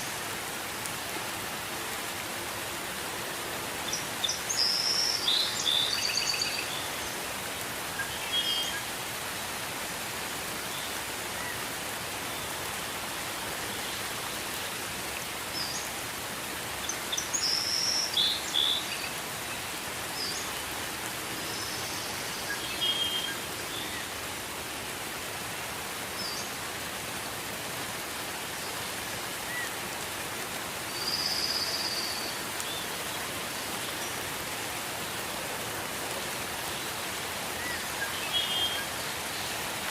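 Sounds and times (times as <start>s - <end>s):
gentle rain hissing: 0.0s - 39.9s.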